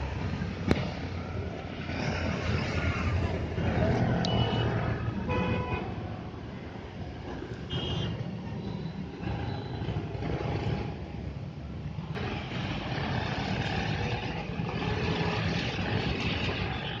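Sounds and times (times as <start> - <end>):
traffic rumbling over a bridge: 0.0 - 17.0.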